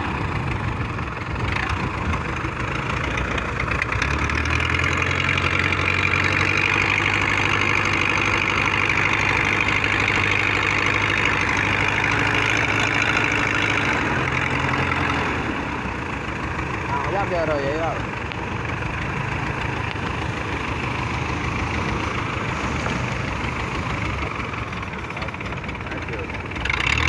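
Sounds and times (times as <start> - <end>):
boat engine running at low revs: 0.0 - 27.0.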